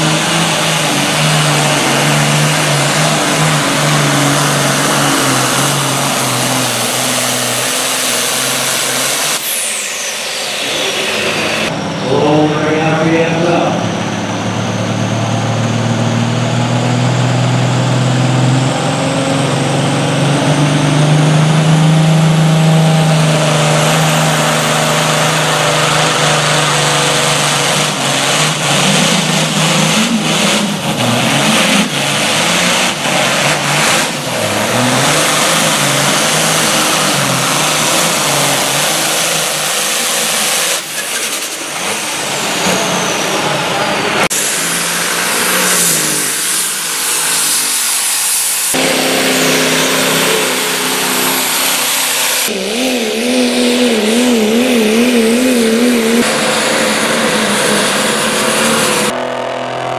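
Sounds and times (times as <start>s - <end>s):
high whine: 0.0s - 59.9s
tractor engine roaring under load: 0.0s - 59.9s.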